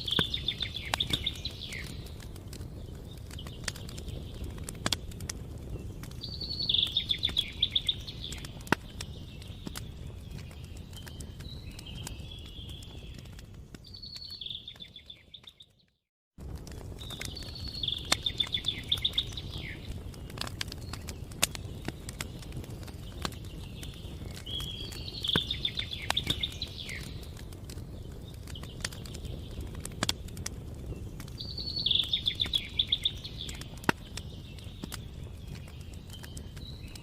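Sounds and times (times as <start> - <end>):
songbird singing: 0.0 - 16.0, 17.0 - 37.0
campfire crackling: 0.0 - 37.0.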